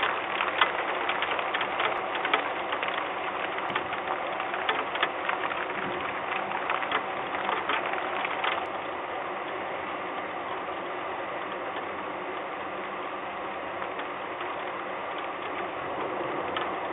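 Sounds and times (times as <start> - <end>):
faint steady hum: 0.0 - 16.9
rain and wind hiss: 0.0 - 16.9
raindrops hitting microphone: 0.0 - 16.9.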